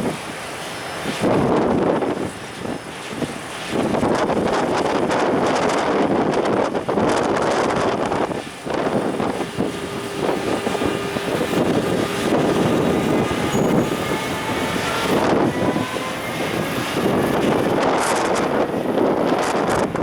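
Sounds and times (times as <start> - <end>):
faint locomotive whine: 0.0 - 20.0
train wheels rumbling: 0.0 - 20.0
wind noise on microphone: 0.0 - 20.0.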